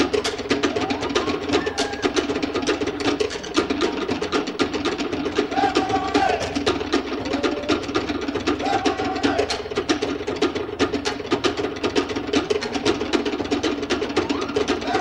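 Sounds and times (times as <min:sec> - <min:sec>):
wooden slit drums rolling: 0:00.0 - 0:15.0.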